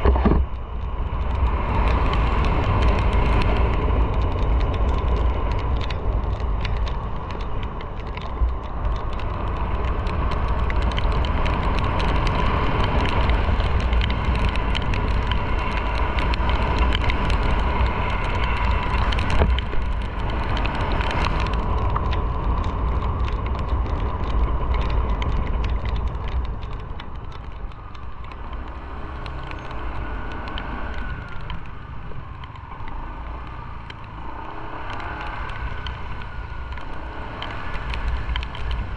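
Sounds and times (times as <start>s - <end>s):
tyres on wet road: 0.0s - 38.9s
wind rumble on microphone: 0.0s - 38.9s.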